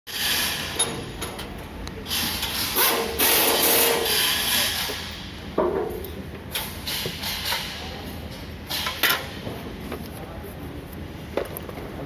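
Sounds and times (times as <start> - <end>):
steady machinery hum: 0.1 - 12.0.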